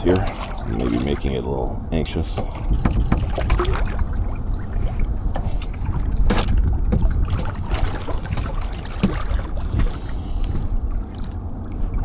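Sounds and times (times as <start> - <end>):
low rumble: 0.0 - 12.0
paddle splashing water: 0.0 - 12.0.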